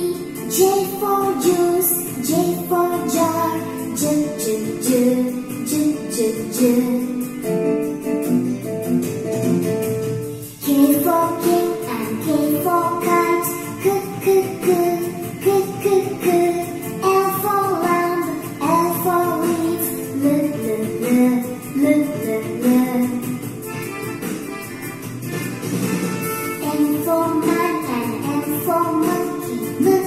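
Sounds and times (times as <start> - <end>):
children's song from television: 0.0 - 7.7, 10.4 - 30.0.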